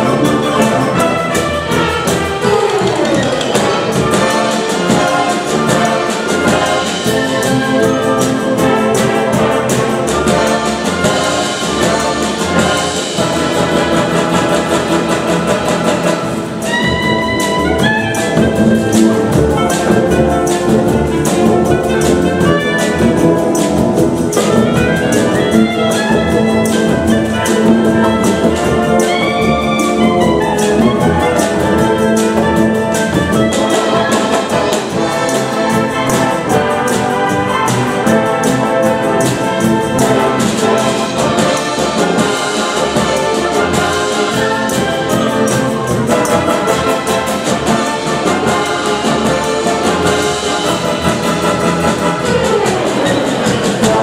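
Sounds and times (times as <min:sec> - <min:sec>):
concert band playing pop tunes: 0:00.0 - 0:54.0
drum kit beat: 0:00.0 - 0:54.0.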